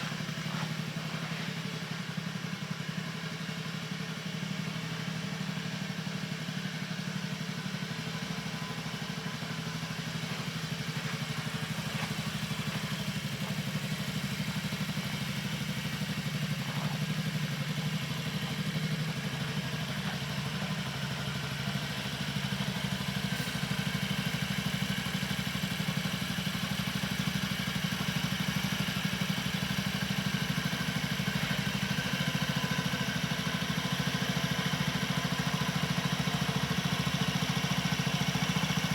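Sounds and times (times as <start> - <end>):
scooter engine idling: 0.0 - 38.9.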